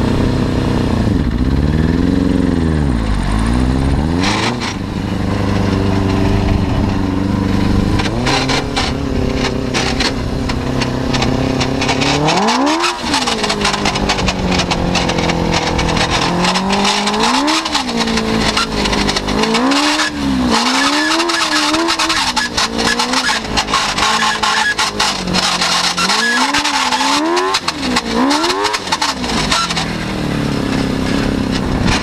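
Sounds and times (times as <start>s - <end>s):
motorcycle engine revving: 0.0s - 32.0s
constant crackling: 4.2s - 32.0s.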